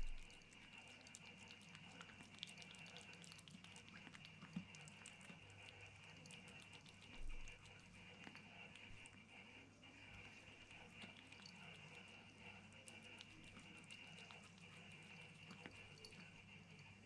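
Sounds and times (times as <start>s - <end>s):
kitten licking: 0.0s - 17.0s.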